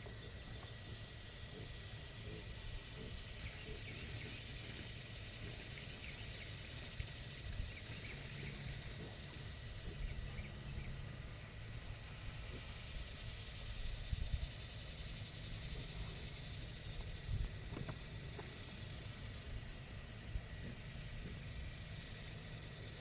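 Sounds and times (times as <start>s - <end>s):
thin steady whine: 0.0s - 23.0s.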